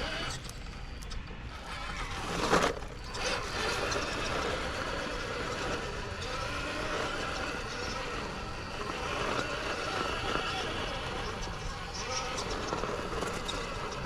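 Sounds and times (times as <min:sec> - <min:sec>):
toy car motor and gear whir: 0:00.0 - 0:14.0.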